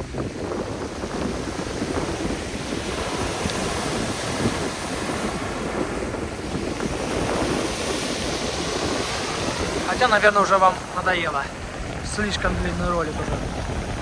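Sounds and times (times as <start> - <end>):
gusty wind buffeting microphone: 0.0 - 14.0
sea surf breaking: 0.0 - 14.0.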